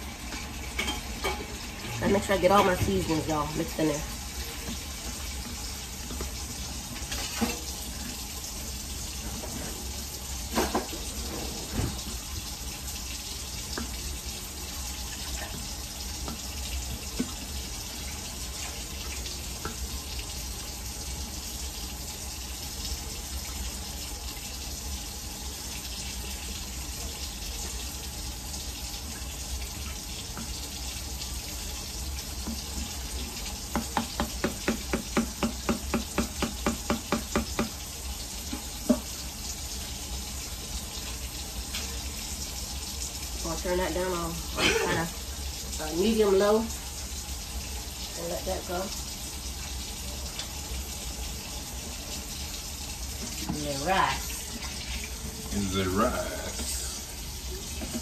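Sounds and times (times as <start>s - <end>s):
steady watery hiss: 0.0s - 58.0s.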